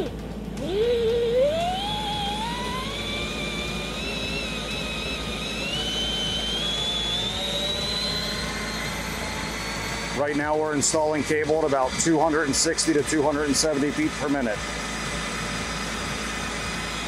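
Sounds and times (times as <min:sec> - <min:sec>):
air-driven motor whining: 0:00.0 - 0:17.0.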